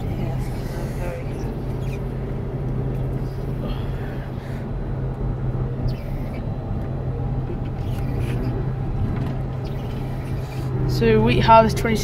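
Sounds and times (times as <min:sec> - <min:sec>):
harvester engine droning: 0:00.0 - 0:12.0.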